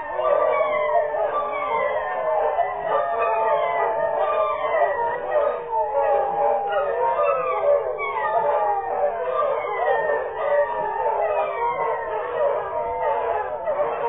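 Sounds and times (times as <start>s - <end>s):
puppies howling and whining: 0.0s - 14.0s.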